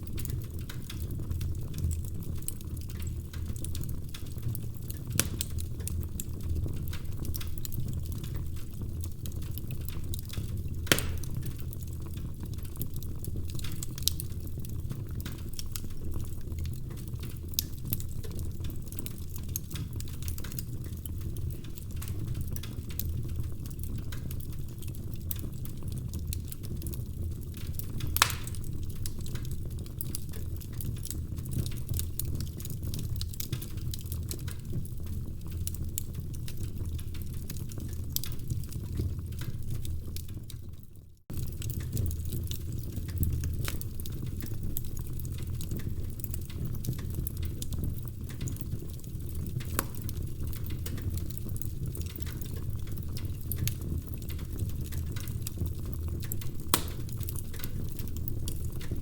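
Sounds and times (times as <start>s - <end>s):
logs crackling and popping: 0.0s - 59.0s
low fire rumble: 0.0s - 59.0s.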